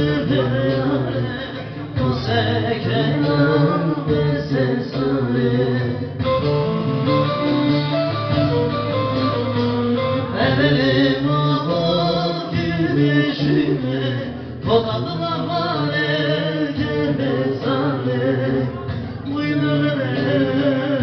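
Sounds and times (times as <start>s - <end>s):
man singing: 0.0s - 21.0s
plucked lute: 0.0s - 21.0s.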